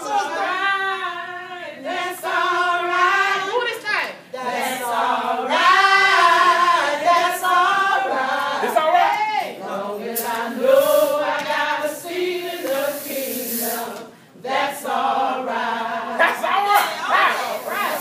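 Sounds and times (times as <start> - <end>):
choir singing gospel song: 0.0 - 18.0.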